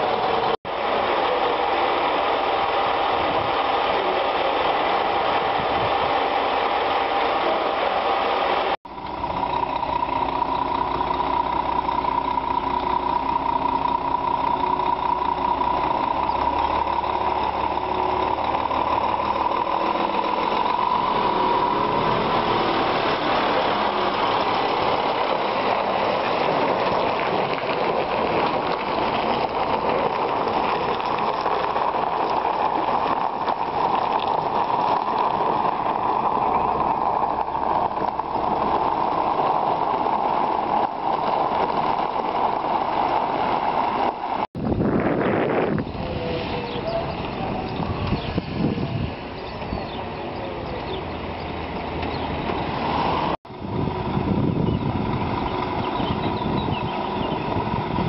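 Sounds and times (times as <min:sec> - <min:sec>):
truck diesel engine: 0:00.0 - 0:58.0.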